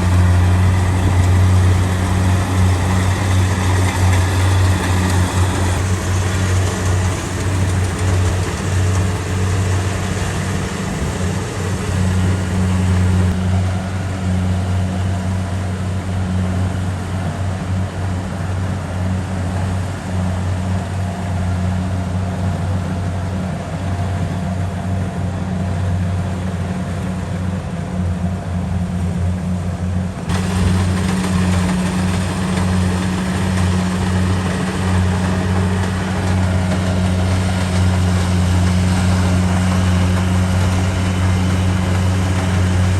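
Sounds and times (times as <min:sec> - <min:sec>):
combine harvester engine drone: 0:00.0 - 0:42.9.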